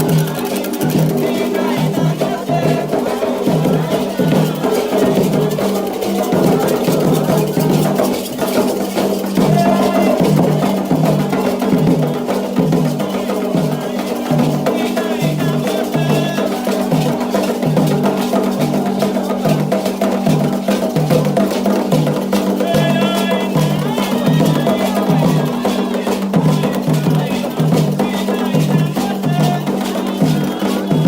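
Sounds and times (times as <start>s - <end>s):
hand drums beating: 0.0s - 31.0s
voices singing: 0.0s - 31.0s.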